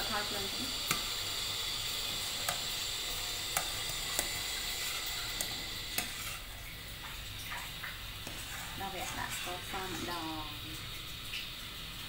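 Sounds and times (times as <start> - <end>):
boiling liquid hiss: 0.0 - 12.0.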